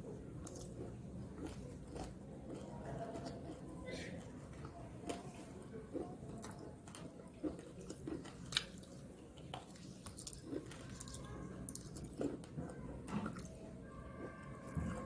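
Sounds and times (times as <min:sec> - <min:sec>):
person chewing food: 0:00.3 - 0:13.5.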